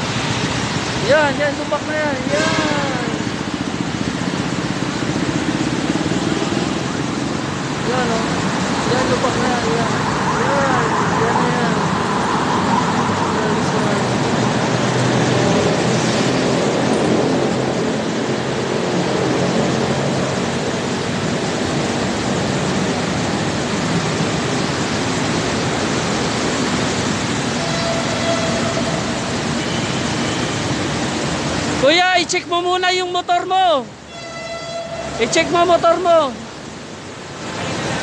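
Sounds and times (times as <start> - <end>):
motorcycle engines running: 0.0 - 31.8
steady traffic noise: 0.0 - 38.0.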